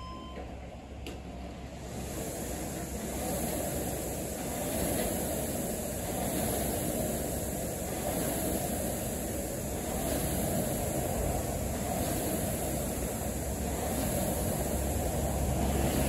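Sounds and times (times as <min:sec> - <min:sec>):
rowing machine flywheel whirring: 0:00.0 - 0:16.0.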